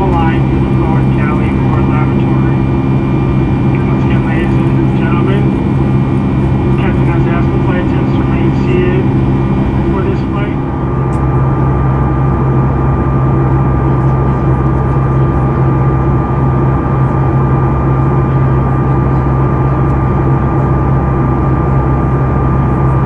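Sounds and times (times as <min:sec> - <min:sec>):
jet engine drone in cabin: 0:00.0 - 0:23.0
thin steady whine: 0:00.0 - 0:23.0.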